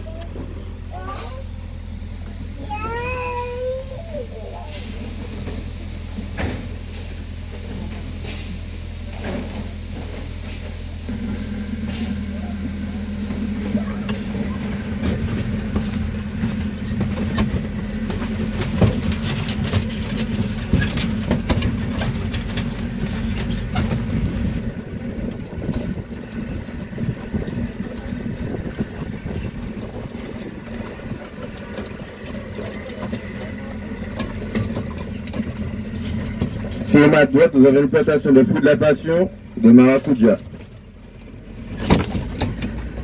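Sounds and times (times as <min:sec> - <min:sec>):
road train engine running: 0:00.0 - 0:43.0
rattles and knocks: 0:04.7 - 0:37.2, 0:39.8 - 0:43.0.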